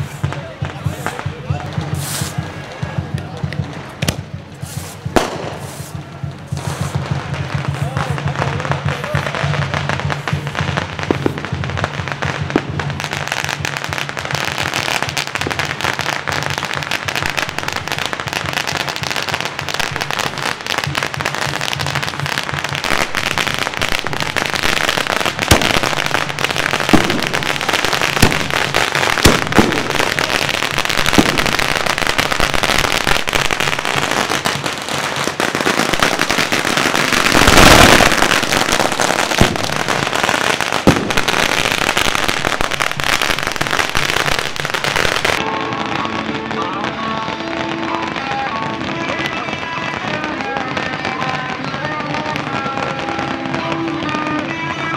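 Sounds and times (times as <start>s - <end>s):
firecrackers crackling: 0.0s - 54.9s
loud firecracker bangs: 0.0s - 54.9s.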